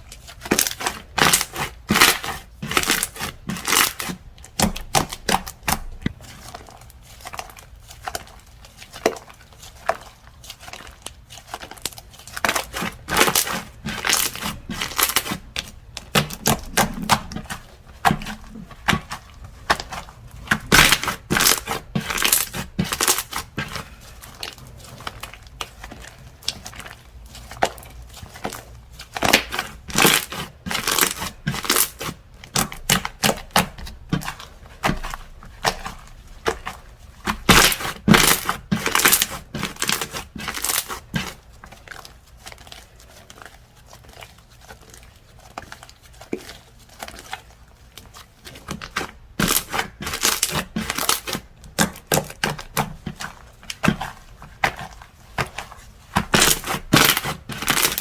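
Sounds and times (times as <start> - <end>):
slime crackling and popping: 0.0 - 58.0.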